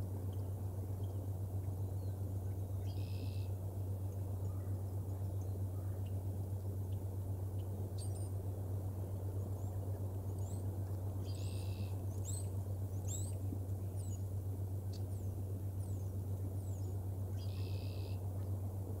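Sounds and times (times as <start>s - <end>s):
low microphone hum: 0.0s - 19.0s
songbird chirps: 0.2s - 18.7s.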